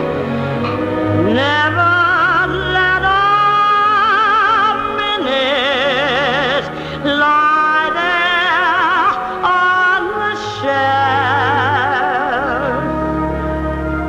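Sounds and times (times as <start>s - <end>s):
low instrumental accompaniment: 0.0s - 14.0s
woman singing a slow ballad: 1.2s - 13.3s.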